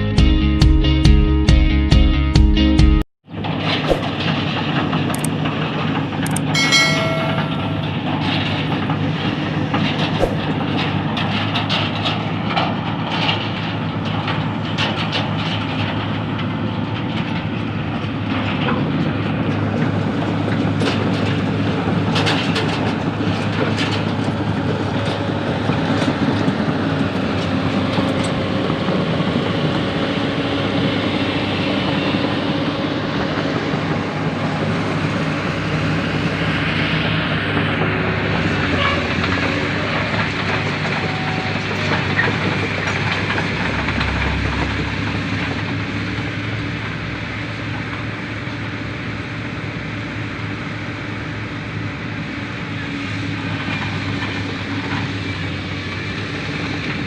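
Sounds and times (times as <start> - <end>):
steel tracks clanking: 3.4 - 57.0
diesel engine running: 7.8 - 57.0.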